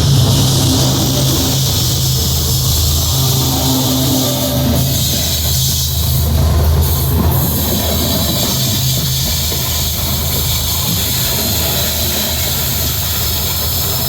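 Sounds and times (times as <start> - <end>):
diesel locomotive engine rumble: 0.0 - 14.0
wheels hissing on rail: 0.0 - 14.0.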